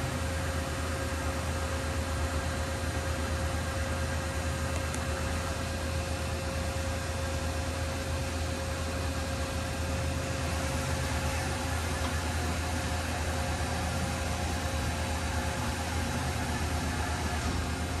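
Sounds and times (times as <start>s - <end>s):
machinery hum and hiss: 0.0s - 18.0s.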